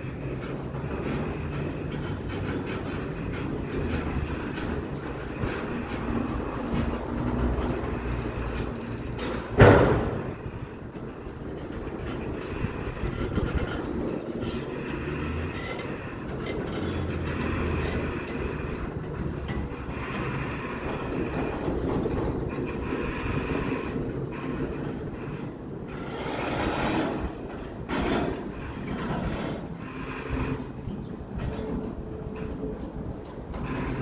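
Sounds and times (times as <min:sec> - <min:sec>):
high wheel squeal: 0:00.0 - 0:34.0
train wheels rumbling on track: 0:00.0 - 0:34.0.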